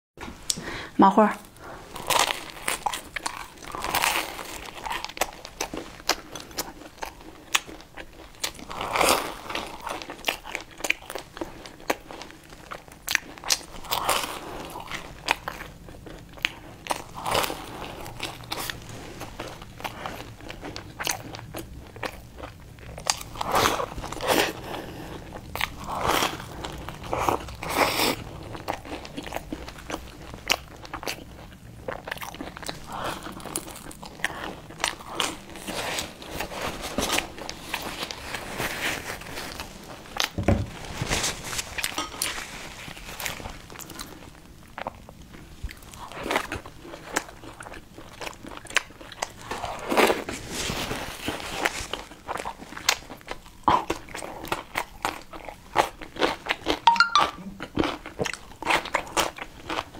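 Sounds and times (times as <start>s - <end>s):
crunchy pastry chewing: 1.6s - 56.8s, 57.6s - 59.9s.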